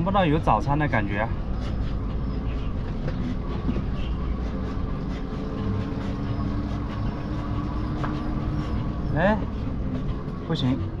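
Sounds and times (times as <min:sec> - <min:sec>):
rolling road noise: 0:00.0 - 0:11.0
wind rumble: 0:00.0 - 0:11.0.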